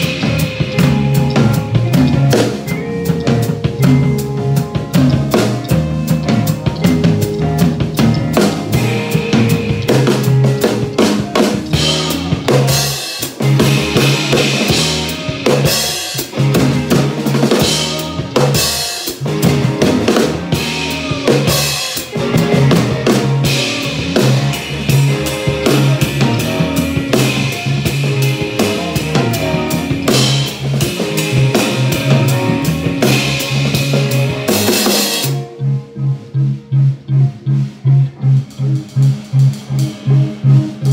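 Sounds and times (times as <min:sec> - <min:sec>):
drum kit played hard: 0:00.0 - 0:40.9
electric guitar: 0:00.0 - 0:40.9
live rock band playing: 0:00.0 - 0:40.9.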